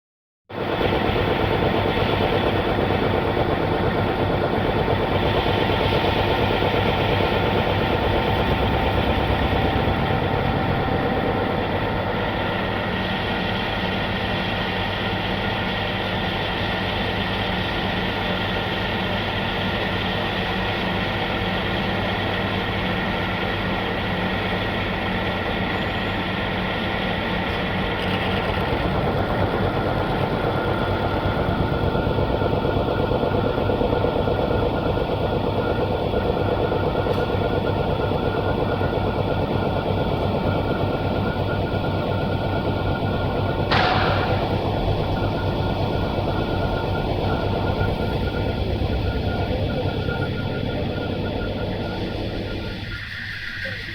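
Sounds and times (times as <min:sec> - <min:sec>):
machine whining tones: 0:00.8 - 0:53.9.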